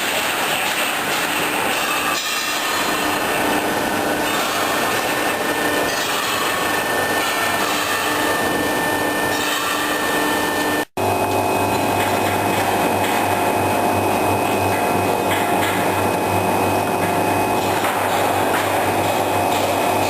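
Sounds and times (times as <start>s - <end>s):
welding machine running: 0.0s - 20.0s.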